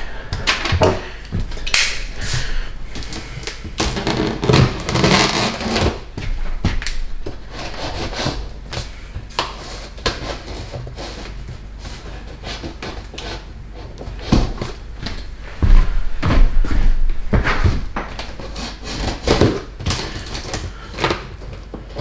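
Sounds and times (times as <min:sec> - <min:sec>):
cardboard scraping and rustling: 0:02.9 - 0:22.0.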